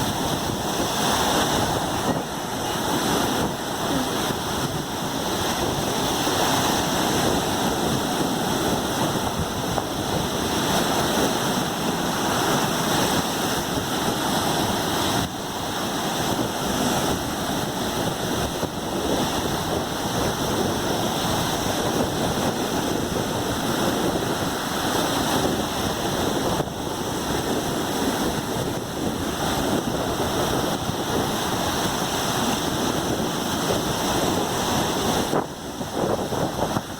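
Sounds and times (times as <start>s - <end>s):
surf breaking on shore: 0.0s - 36.9s.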